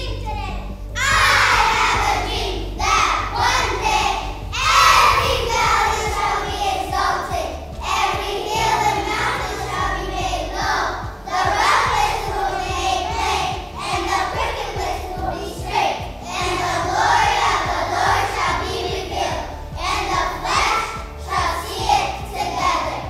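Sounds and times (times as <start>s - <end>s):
children singing in unison: 1.0s - 23.0s.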